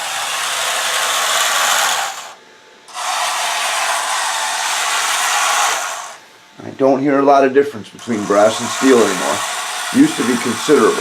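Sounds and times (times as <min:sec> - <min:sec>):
electric motors and gears whirring: 0:00.0 - 0:06.3, 0:08.0 - 0:11.0.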